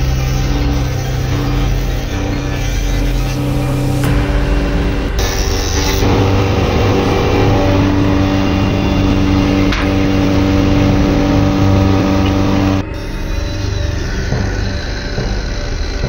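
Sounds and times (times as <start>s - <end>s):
woodworking machine motor whirring: 0.0s - 16.0s.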